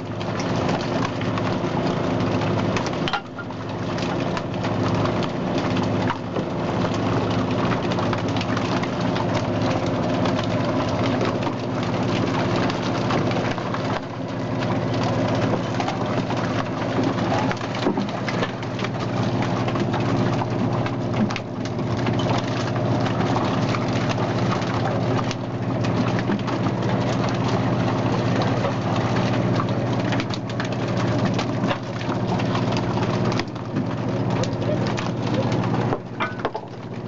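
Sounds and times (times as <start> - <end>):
boat engine droning: 0.0 - 37.0
fish splashing and slapping on deck: 0.0 - 37.0.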